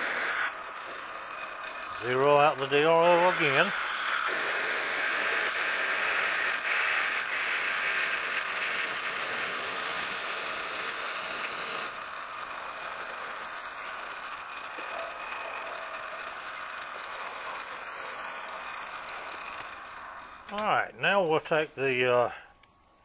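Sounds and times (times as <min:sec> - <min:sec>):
lathe drilling into metal: 0:00.0 - 0:20.5.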